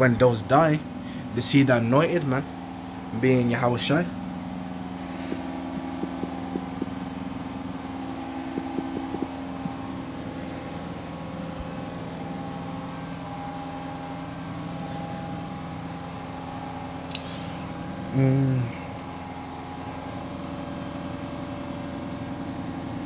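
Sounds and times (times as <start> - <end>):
washing machine humming: 0.0 - 23.0.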